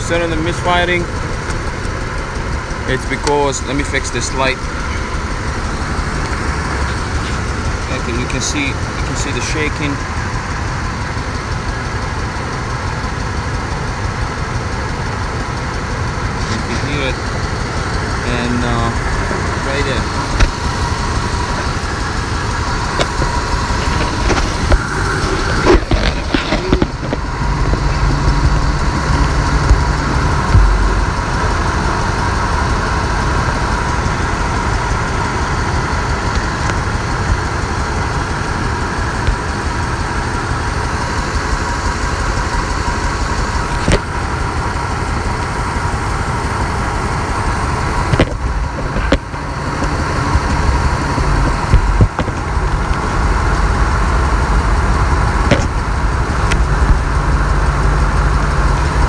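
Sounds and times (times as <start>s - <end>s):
car engine idling rough: 0.0s - 59.0s.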